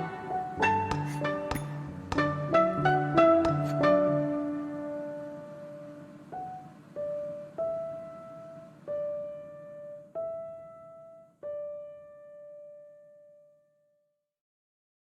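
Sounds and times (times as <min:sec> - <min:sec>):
slow piano notes: 0:00.0 - 0:13.7.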